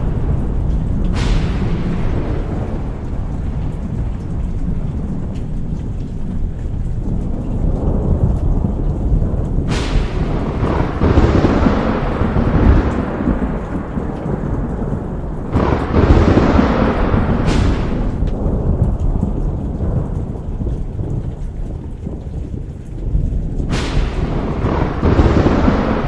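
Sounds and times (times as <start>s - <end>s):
heavy rain: 0.0s - 26.0s
thunder rolling: 0.0s - 26.0s.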